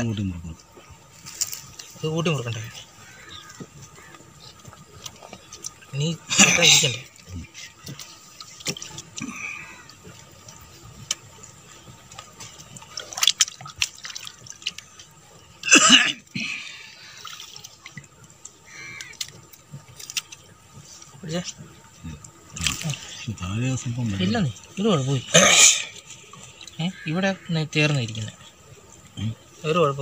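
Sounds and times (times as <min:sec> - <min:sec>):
water sloshing and dripping: 0:00.0 - 0:30.0.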